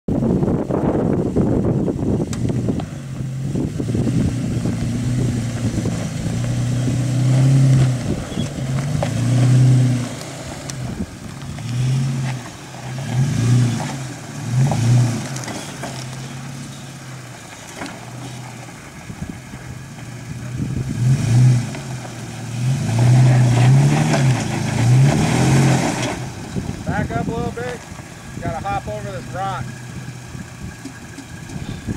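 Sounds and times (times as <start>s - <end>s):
truck engine revving: 0.5s - 31.9s.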